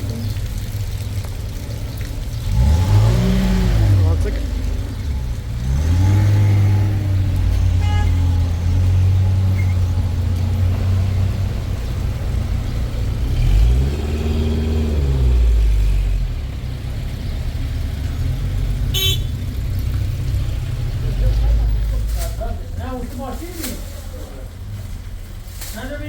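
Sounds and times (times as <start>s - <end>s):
vehicle engine revving: 2.3s - 25.4s.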